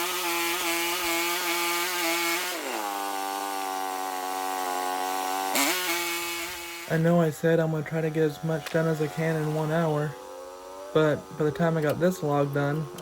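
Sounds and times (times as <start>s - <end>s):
sawmill sawing a log: 0.0s - 13.0s.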